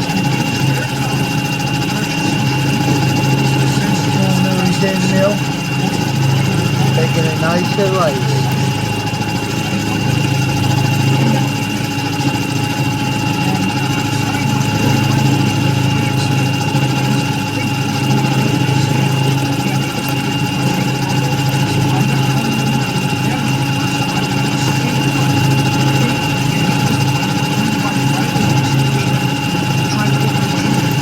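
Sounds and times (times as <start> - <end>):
motor hum with high whine: 0.0 - 31.0.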